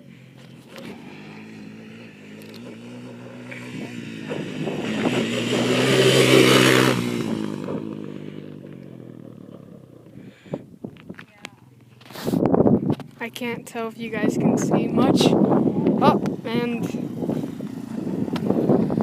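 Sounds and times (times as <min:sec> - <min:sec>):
motorcycle passing by: 0:00.0 - 0:10.6, 0:13.4 - 0:19.0.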